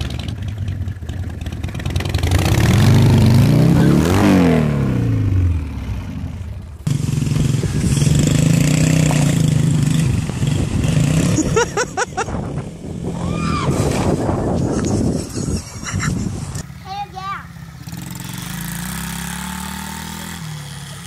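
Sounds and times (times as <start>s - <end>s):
dirt bike engine running: 0.0s - 12.9s, 14.2s - 21.0s
motorcycle engine revving: 0.0s - 16.8s, 17.4s - 21.0s.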